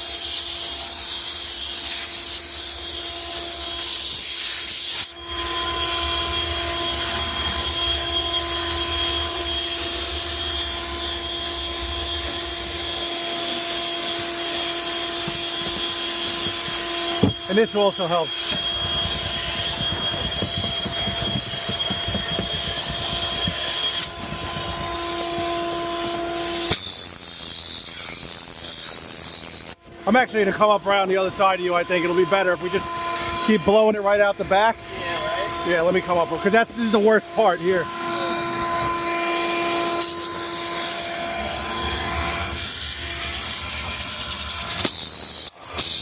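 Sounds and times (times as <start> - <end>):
cleaning machine whining hum: 0.0 - 46.0
steam jet hissing: 0.0 - 46.0.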